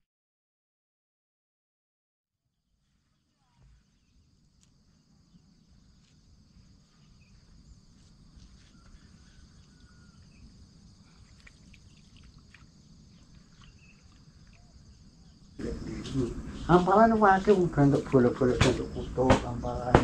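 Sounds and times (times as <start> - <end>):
insects trilling: 2.8 - 20.0
short insect chirps: 2.8 - 20.0.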